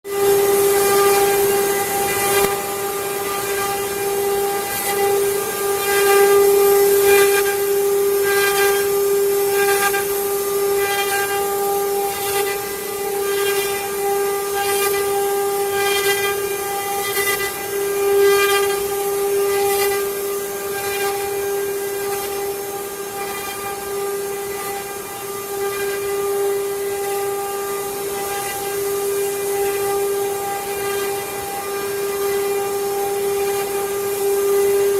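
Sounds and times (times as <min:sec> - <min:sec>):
hiss of wood cutting: 0:00.1 - 0:34.9
router spindle high whine: 0:00.1 - 0:34.9.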